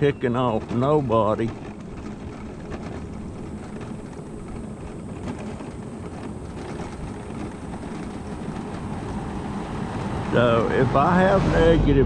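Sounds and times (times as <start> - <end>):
mobility scooter rolling on asphalt: 0.0 - 12.0.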